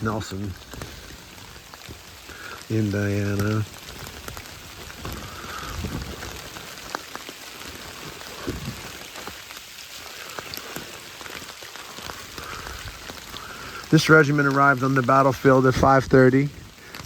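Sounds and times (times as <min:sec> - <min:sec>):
raindrops ticking close: 0:00.0 - 0:17.0
steady rainfall: 0:00.0 - 0:17.0.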